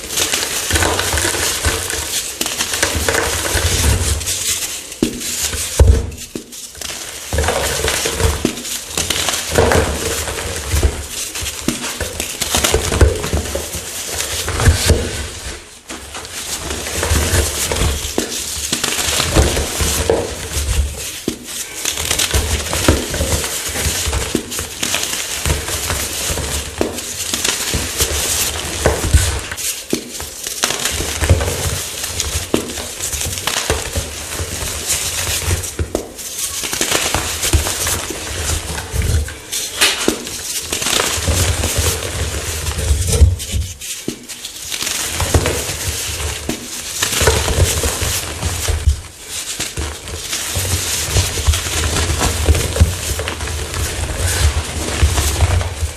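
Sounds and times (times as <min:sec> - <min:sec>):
chalk crunching and crackling: 0:00.0 - 0:55.9.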